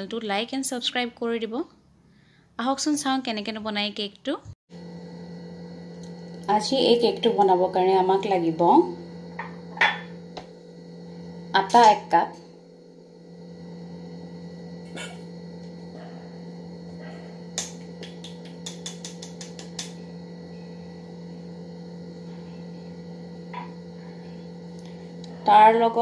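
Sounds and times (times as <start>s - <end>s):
electrical hum: 4.7s - 26.0s.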